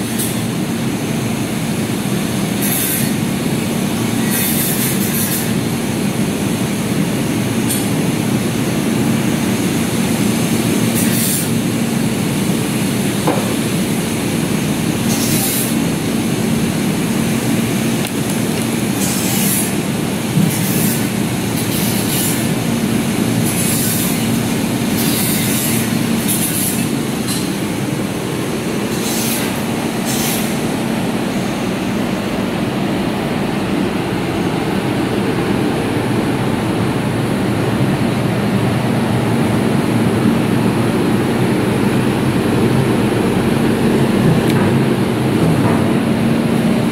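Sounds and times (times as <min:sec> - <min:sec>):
chiller mechanical hum: 0:00.0 - 0:46.9.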